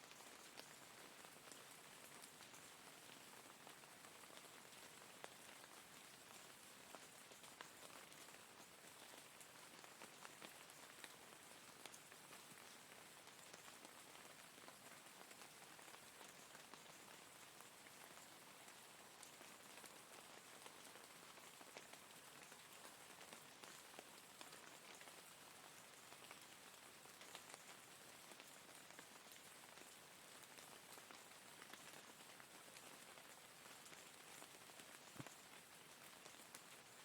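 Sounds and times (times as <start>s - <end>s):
faint rain: 0.0s - 37.0s.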